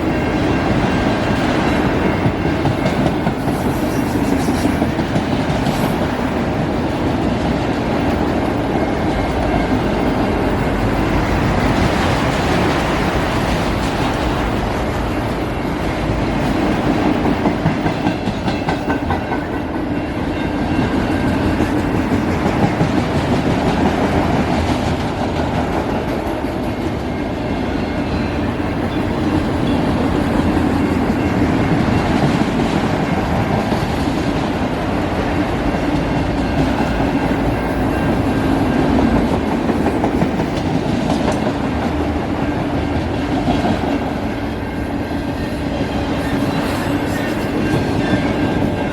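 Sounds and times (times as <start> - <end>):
train rumble: 0.0 - 48.9
train wheels clickety-clack: 0.0 - 48.9.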